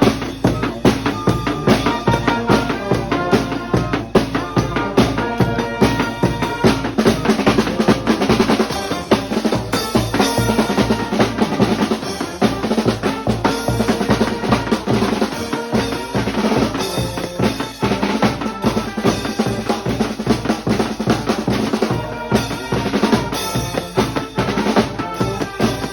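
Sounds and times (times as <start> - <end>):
bass drum: 0.0 - 25.9
held horn notes: 0.0 - 25.9
snare drum: 0.0 - 25.9.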